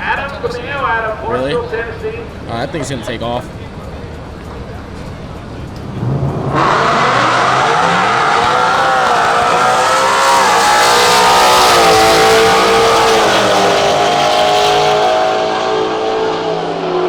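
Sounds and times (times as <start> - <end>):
drag race cars accelerating: 0.0 - 17.0.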